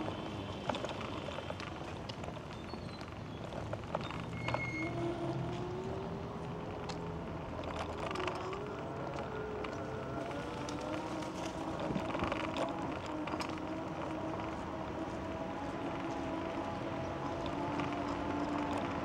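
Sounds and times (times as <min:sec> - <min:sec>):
city street noise: 0:00.0 - 0:19.0
small vehicle motor whining: 0:00.0 - 0:19.0.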